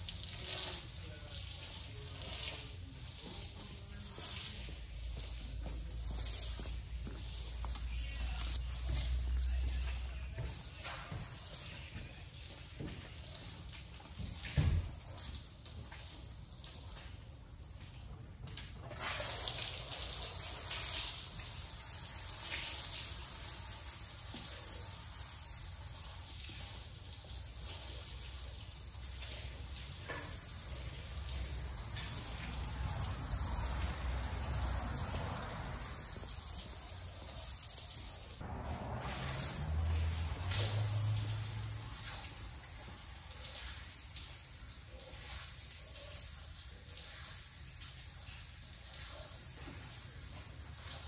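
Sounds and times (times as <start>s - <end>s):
water splashing from watering can: 0.0s - 51.0s.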